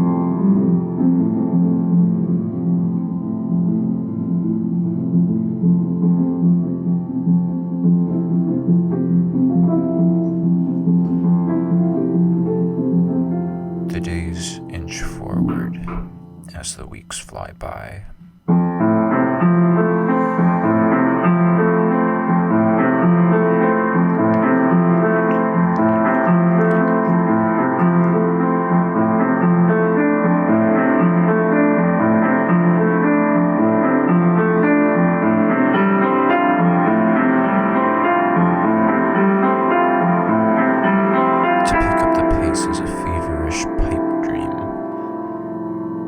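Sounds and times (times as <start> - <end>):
improvised piano music: 0.0 - 46.0.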